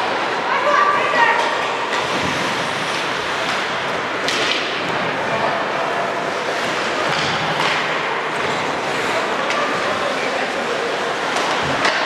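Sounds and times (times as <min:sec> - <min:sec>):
crowd noise: 0:00.0 - 0:12.0
skates on ice: 0:00.0 - 0:12.0
hockey stick hitting puck: 0:01.3 - 0:10.2, 0:11.2 - 0:12.0.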